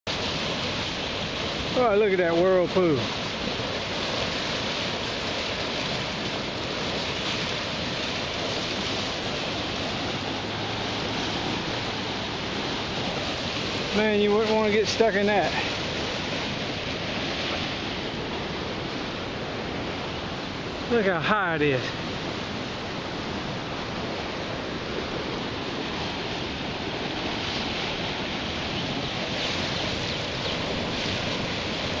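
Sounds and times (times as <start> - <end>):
floodwater rushing and churning: 0.0 - 32.0.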